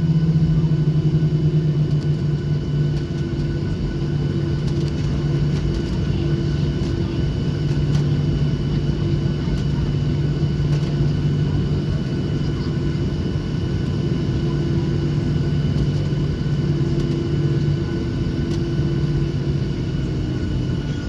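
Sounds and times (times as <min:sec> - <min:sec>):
jet engines idling in cabin: 0:00.0 - 0:21.0.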